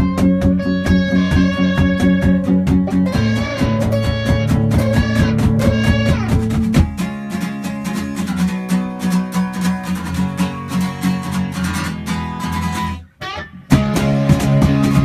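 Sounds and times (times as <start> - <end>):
guitars strumming: 0.0 - 15.0.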